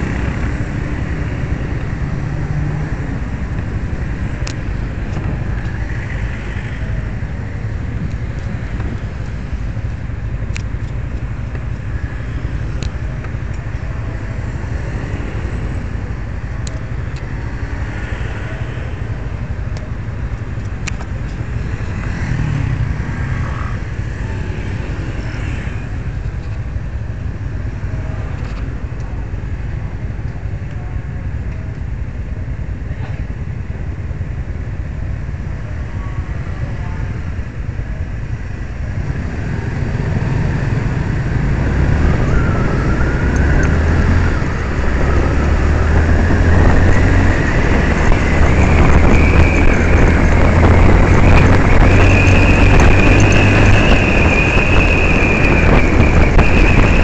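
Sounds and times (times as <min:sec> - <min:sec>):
motorcycle engines rumbling: 0:00.0 - 0:57.0
road noise: 0:00.0 - 0:57.0.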